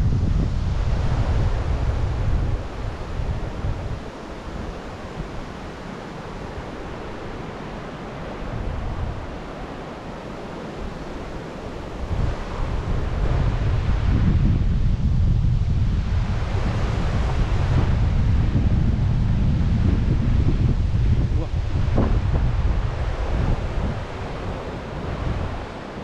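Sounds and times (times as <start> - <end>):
steady rushing noise: 0.0 - 26.0
wind buffeting microphone: 0.0 - 26.0.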